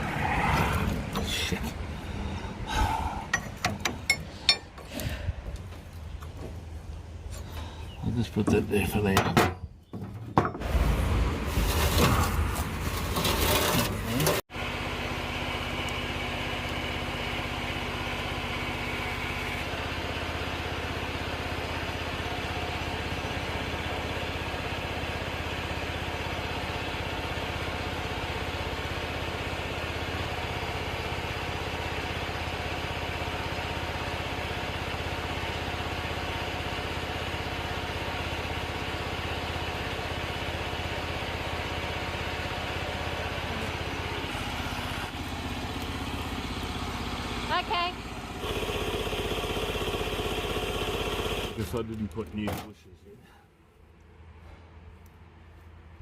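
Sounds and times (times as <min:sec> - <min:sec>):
engine idling: 0:00.8 - 0:09.2, 0:10.7 - 0:55.8.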